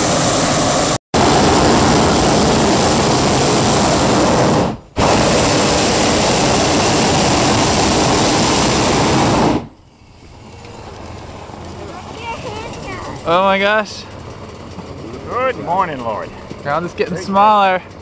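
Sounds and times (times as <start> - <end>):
propane burner roaring: 0.0 - 18.0.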